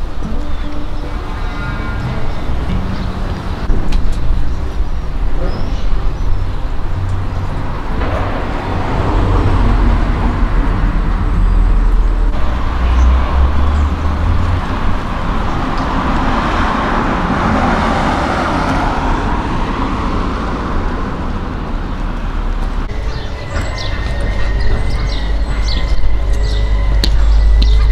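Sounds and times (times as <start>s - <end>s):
cars passing: 0.0s - 27.9s.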